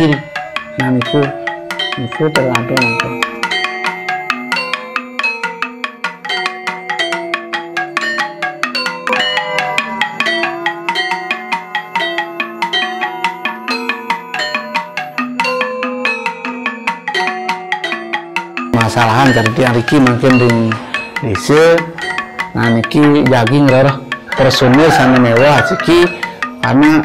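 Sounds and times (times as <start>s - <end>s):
gamelan ensemble playing: 0.0s - 27.0s.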